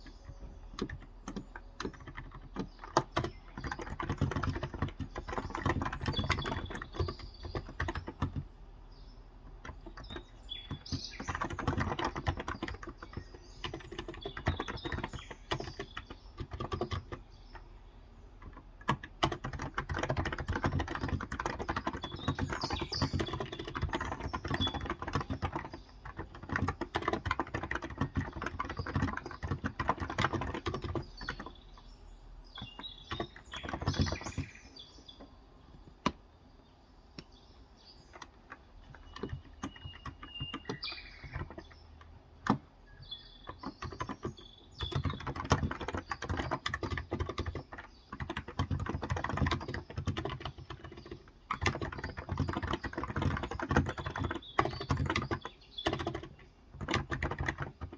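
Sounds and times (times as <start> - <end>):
keyboard typing: 0.0 - 36.3, 37.1 - 57.9
birds chirping faintly: 0.0 - 57.9.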